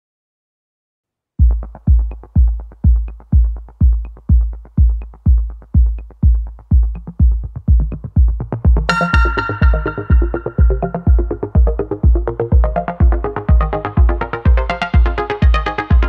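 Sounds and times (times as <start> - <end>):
electronic music kick drum: 1.4 - 16.0
synth music: 1.6 - 16.0.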